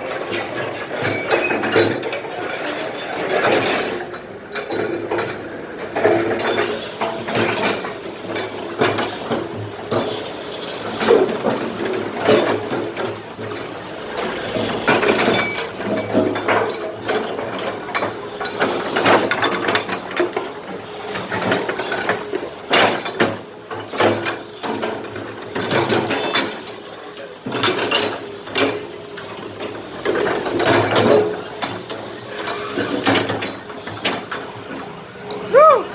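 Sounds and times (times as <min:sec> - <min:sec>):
bucket scraping and clanking on concrete: 0:00.0 - 0:34.6
excavator engine droning: 0:00.0 - 0:35.9.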